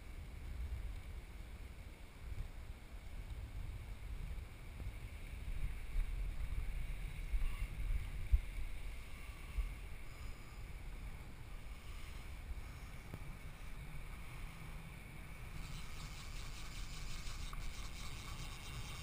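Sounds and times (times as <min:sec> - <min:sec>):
wind buffeting microphone: 0:02.4 - 0:19.0.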